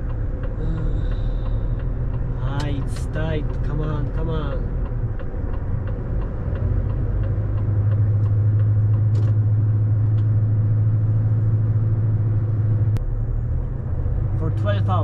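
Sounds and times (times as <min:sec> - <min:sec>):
diesel engine humming: 0:00.0 - 0:15.0
turn signal ticking: 0:00.0 - 0:15.0.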